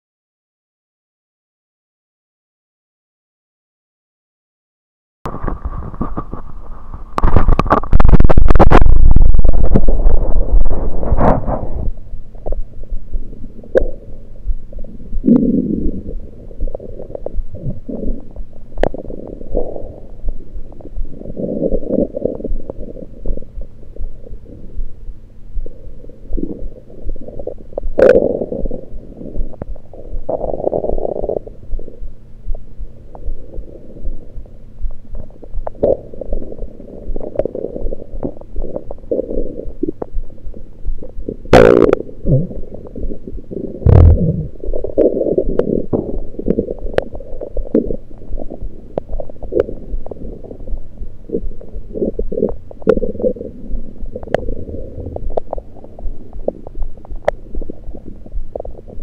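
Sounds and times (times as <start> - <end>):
stomach gurgling: 5.3 - 59.0.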